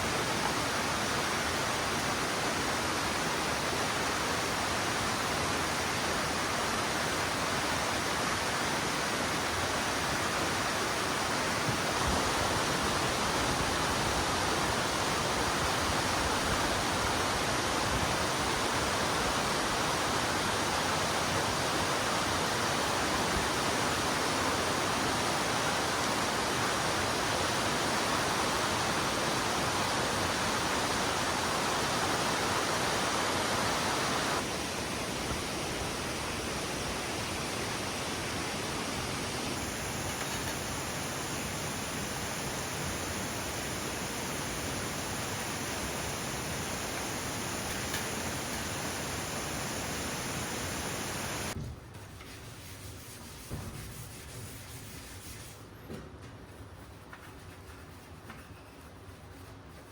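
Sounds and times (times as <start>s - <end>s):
stream water rushing: 0.0s - 51.6s.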